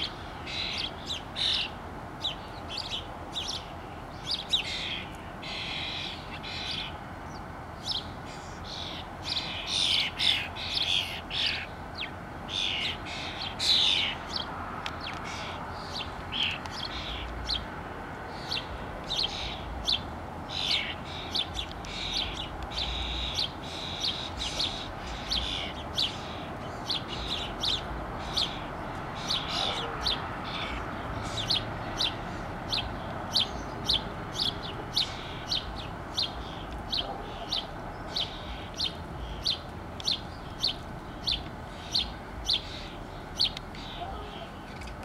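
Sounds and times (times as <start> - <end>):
songbird chirping: 0.0 - 45.0
steady background hiss: 0.0 - 45.0.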